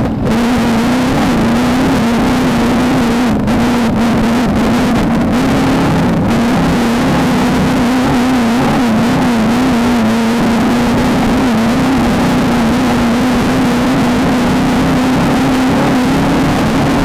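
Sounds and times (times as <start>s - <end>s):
race car engine at high revs: 0.0s - 17.0s
road and wind noise: 0.0s - 17.0s.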